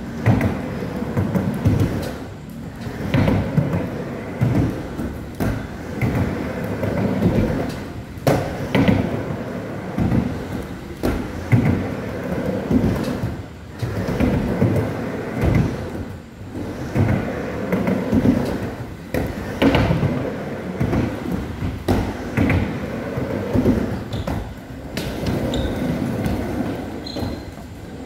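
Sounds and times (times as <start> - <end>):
skateboard wheels rumbling: 0.0 - 28.0.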